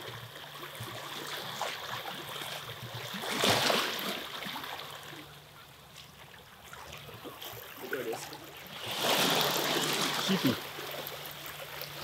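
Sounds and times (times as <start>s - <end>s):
water lapping along shore: 0.0s - 12.0s.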